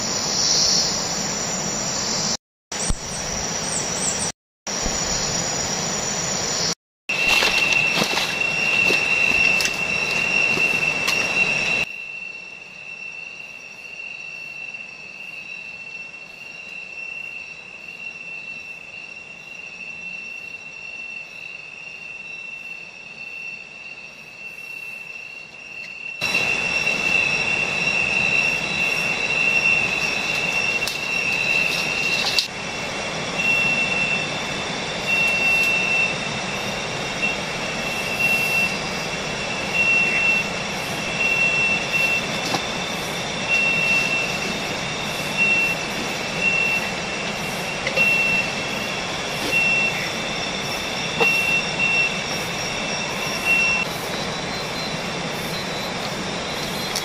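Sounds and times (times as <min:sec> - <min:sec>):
night insects shrilling: 0:04.7 - 0:57.0.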